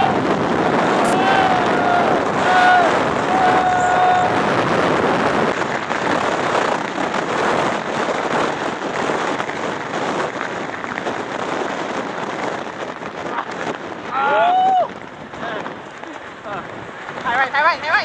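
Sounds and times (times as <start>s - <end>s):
vehicle road noise: 0.0s - 18.0s
wind buffeting microphone: 0.0s - 18.0s.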